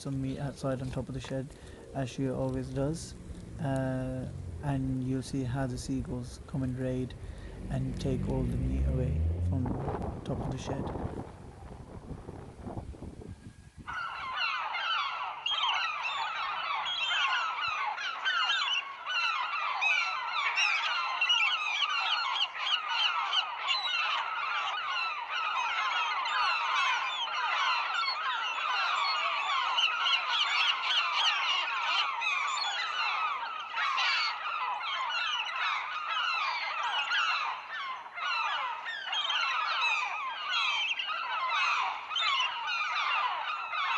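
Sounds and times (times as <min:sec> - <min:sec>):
seagulls calling: 0:00.0 - 0:12.8, 0:13.7 - 0:43.9.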